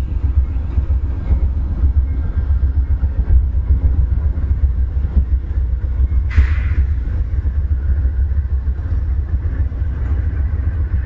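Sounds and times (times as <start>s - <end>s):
train cars rolling past: 0.0s - 11.0s.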